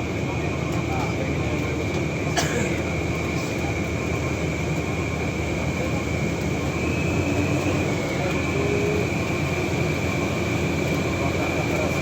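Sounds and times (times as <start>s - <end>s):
truck diesel engine labouring: 0.0s - 12.0s.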